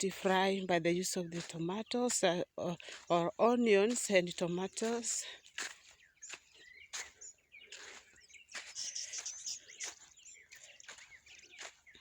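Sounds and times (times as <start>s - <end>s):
footsteps rustling through garden: 0.0s - 12.0s
small birds chirping: 0.0s - 12.0s.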